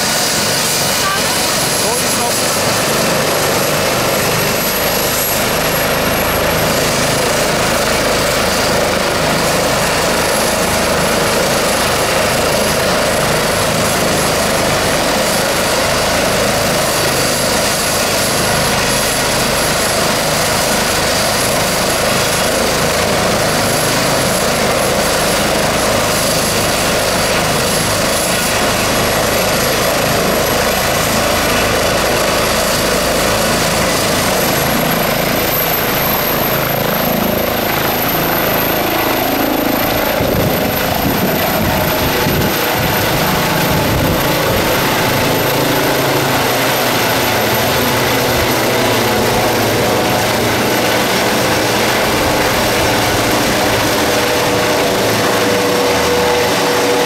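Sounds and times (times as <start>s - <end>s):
helicopter rotor rush: 0.0s - 57.0s
high turbine whine: 0.0s - 57.0s.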